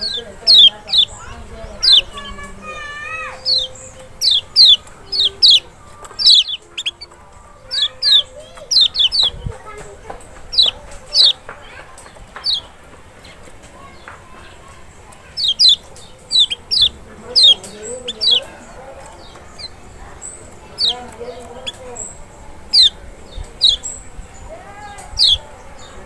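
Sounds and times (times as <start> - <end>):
bird calling sharp notes: 0.0 - 25.8.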